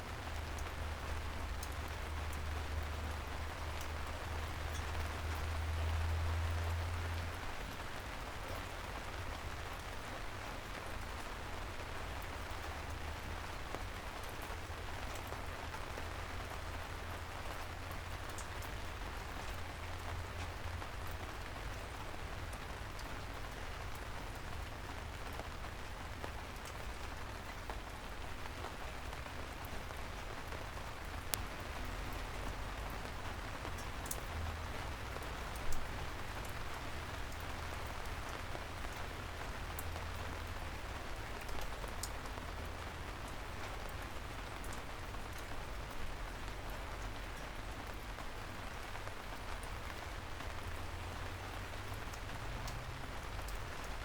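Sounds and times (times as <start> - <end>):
soft rain falling: 0.0 - 54.0.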